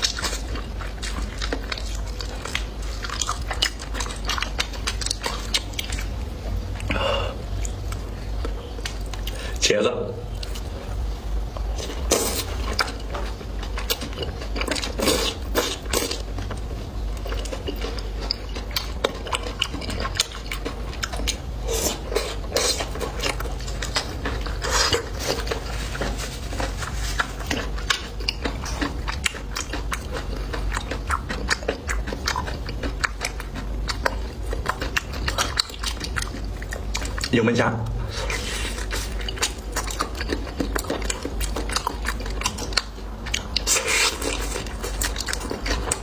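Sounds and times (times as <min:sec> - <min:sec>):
chewing and biting food: 0:00.0 - 0:09.6, 0:10.2 - 0:46.0
steady low hum: 0:00.0 - 0:46.0.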